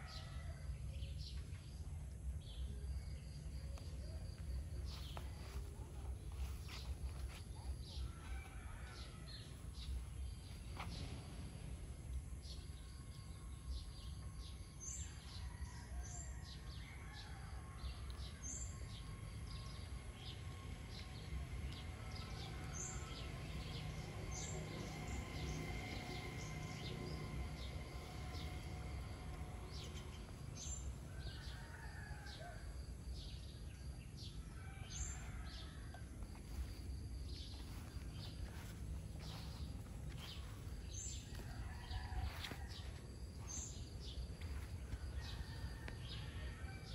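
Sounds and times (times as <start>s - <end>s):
low background rumble: 0.6s - 15.0s, 18.7s - 46.9s.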